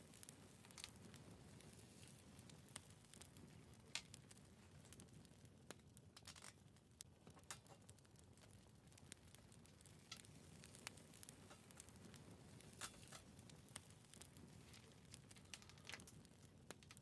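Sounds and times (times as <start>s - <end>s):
firewood crackling: 0.0s - 17.0s.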